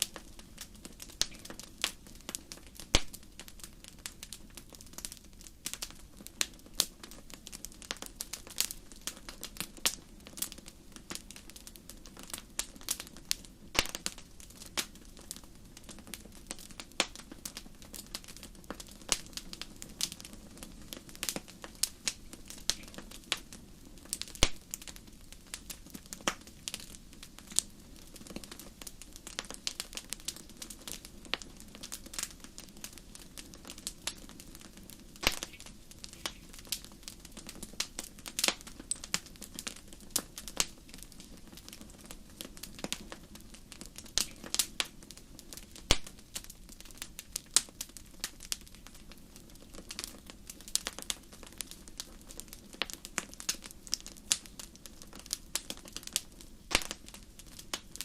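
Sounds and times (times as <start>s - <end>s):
low rush of flame: 0.0s - 58.0s
wood fire crackling: 0.0s - 58.0s.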